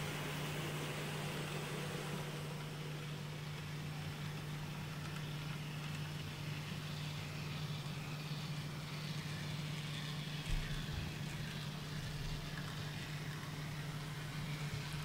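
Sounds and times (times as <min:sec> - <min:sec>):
model train running hum: 0:00.0 - 0:15.0.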